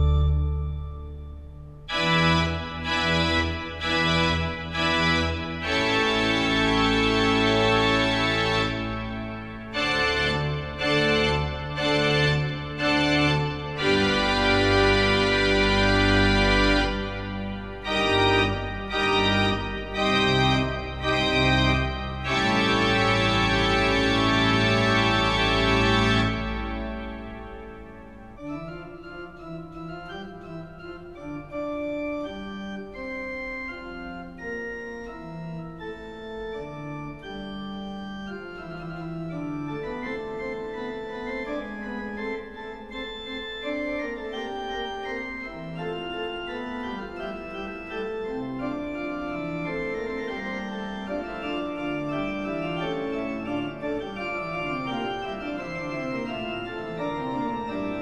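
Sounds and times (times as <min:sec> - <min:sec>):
organ music: 0:00.0 - 0:58.0.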